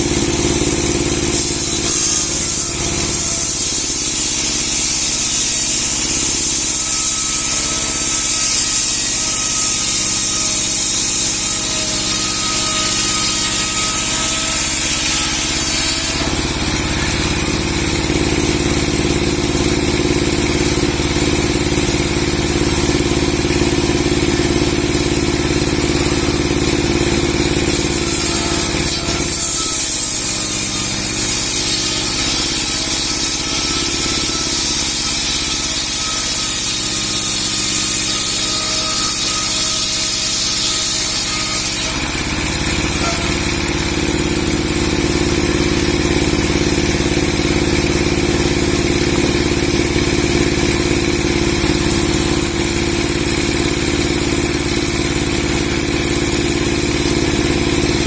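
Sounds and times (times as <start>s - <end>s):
saw machine cutting log: 0.0s - 58.0s.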